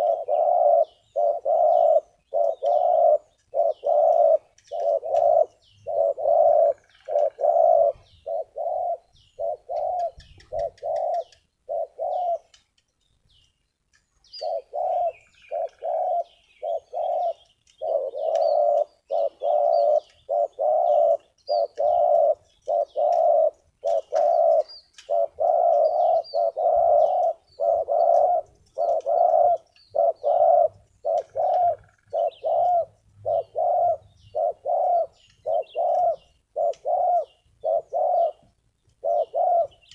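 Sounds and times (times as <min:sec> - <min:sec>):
dove cooing: 0:00.0 - 0:12.6, 0:14.4 - 0:39.9
small birds chirping faintly: 0:00.0 - 0:39.9.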